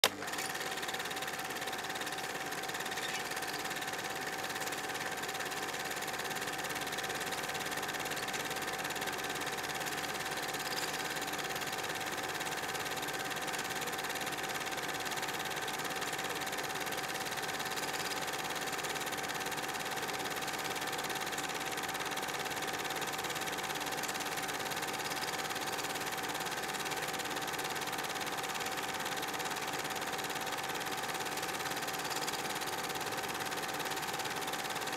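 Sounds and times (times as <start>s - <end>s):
film projector mechanical whir: 0.0s - 34.9s.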